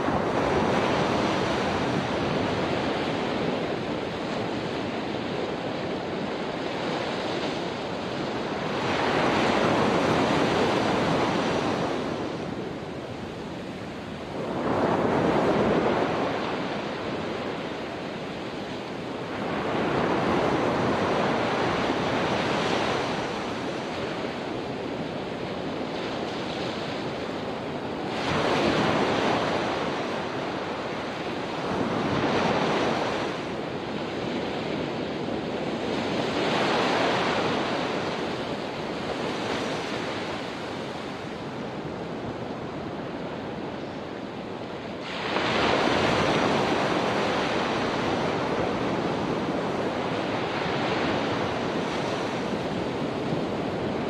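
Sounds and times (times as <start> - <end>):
small waves washing up beach: 0.0 - 54.0.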